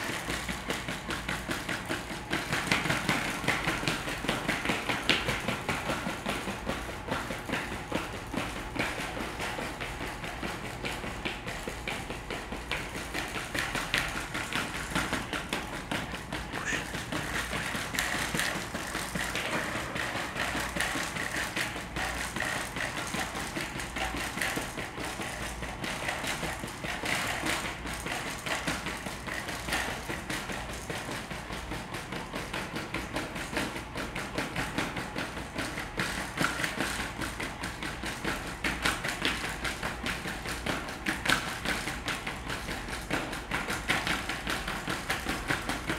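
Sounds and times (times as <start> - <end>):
robot feet tapping on foam mats: 0.0 - 45.9.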